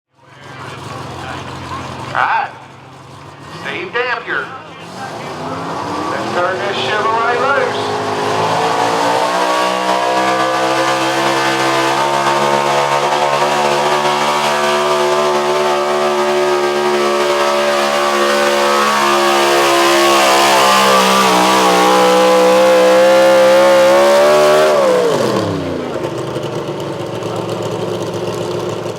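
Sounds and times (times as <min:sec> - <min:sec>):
truck engine at high revs: 0:00.1 - 0:28.9.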